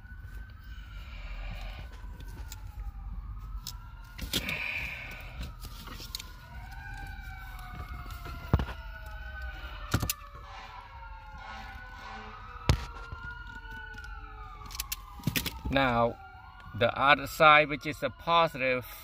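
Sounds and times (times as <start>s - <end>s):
faint siren wailing: 0.0s - 19.0s.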